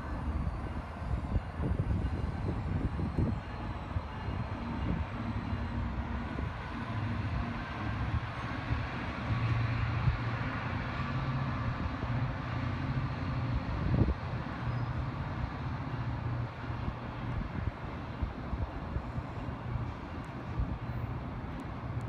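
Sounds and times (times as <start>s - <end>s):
diesel train drone: 0.0s - 22.0s
train rumbling on rails: 0.0s - 22.0s.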